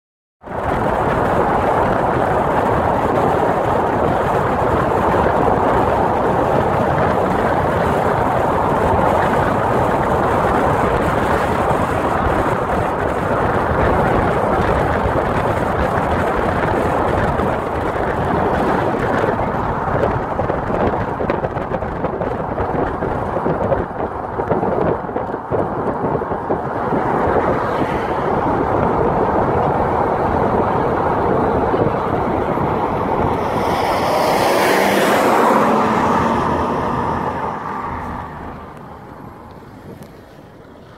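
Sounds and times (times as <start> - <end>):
wind and road noise from car: 0.4 - 40.9.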